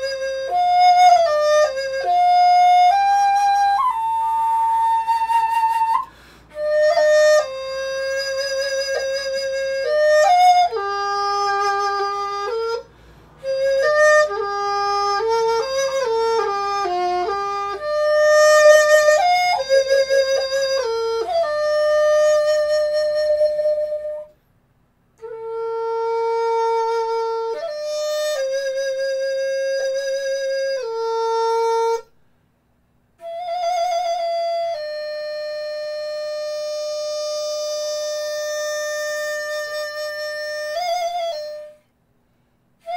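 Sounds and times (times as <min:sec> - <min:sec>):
flute solo melody: 0:00.0 - 0:24.4, 0:25.2 - 0:32.1, 0:33.2 - 0:41.9.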